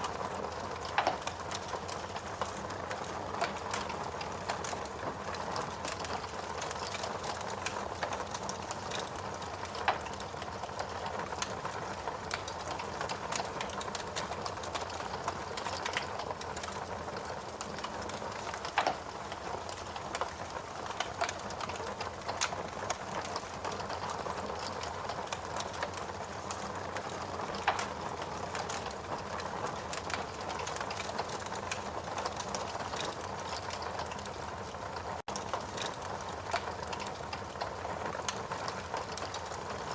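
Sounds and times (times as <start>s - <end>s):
wood crackling: 0.0s - 39.9s.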